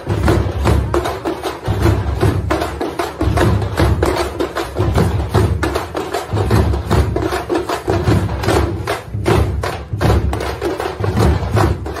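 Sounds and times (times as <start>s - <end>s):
drum-heavy music: 0.0s - 12.0s.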